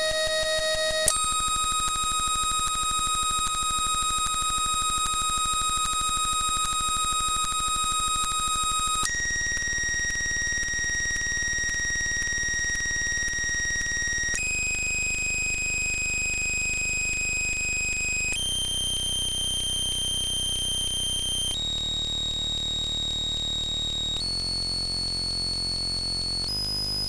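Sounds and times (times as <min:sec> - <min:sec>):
shrill electronic buzzing tone: 0:00.0 - 0:27.0.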